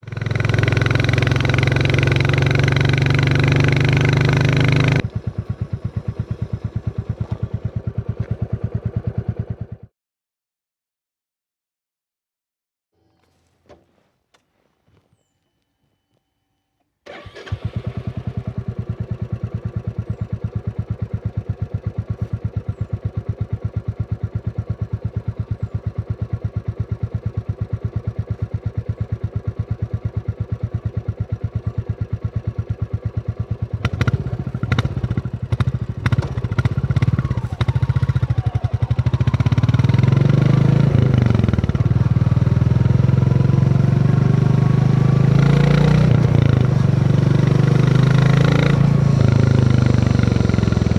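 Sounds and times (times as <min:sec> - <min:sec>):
motorcycle engine idling: 0:00.0 - 0:09.9, 0:17.1 - 0:50.9.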